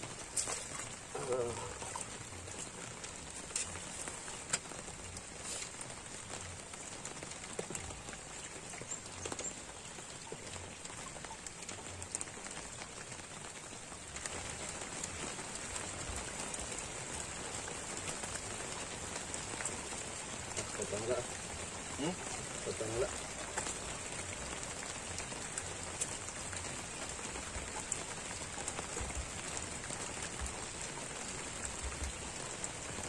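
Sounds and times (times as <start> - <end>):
light rain on water: 0.0 - 33.0
sharp ticks of raindrops: 0.0 - 33.0.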